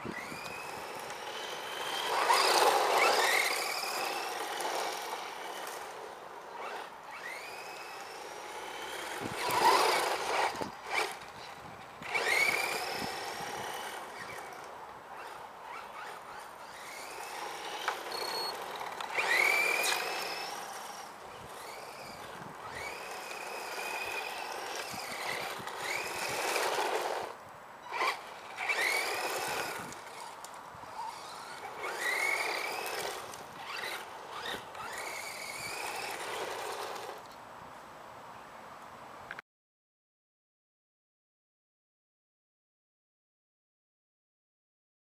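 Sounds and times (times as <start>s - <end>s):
toy truck electric motor whining: 0.0s - 37.3s
tyres rushing over asphalt: 0.0s - 37.3s.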